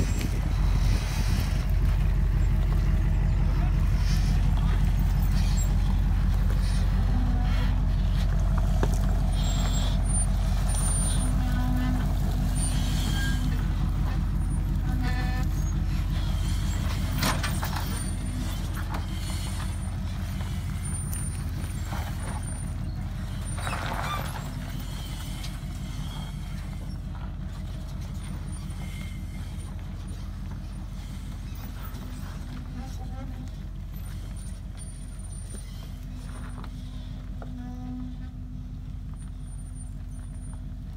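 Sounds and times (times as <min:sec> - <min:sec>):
vehicle engine at low revs: 0:00.0 - 0:40.9.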